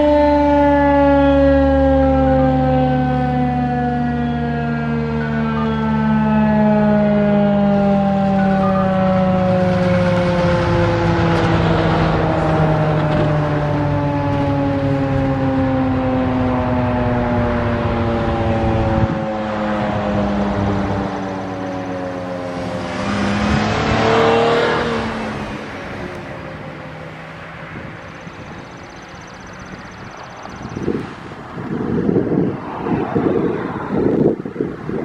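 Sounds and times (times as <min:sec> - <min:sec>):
siren winding down: 0:00.0 - 0:30.9.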